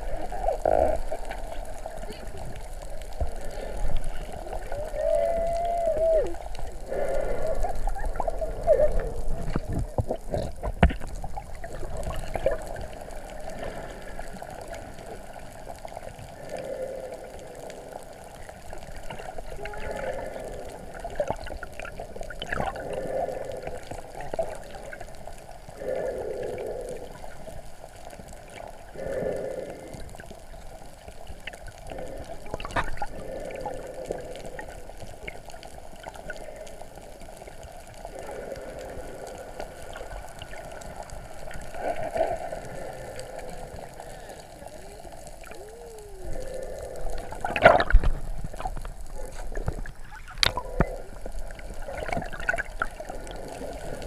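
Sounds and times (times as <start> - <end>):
underwater gurgling water: 0.0 - 54.0.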